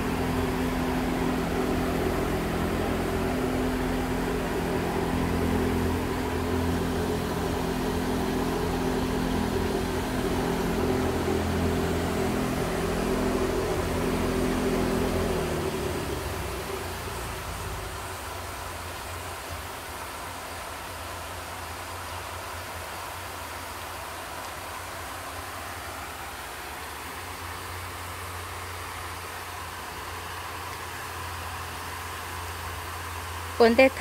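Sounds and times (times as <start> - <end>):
machine humming: 0.0 - 34.0.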